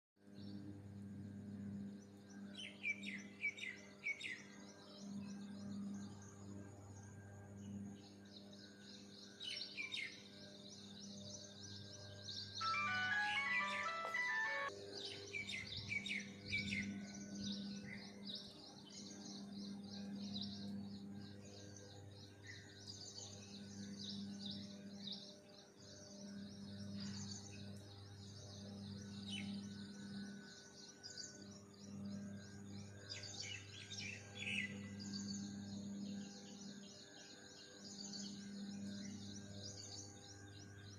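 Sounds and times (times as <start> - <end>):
small birds chirping: 2.0 - 40.9.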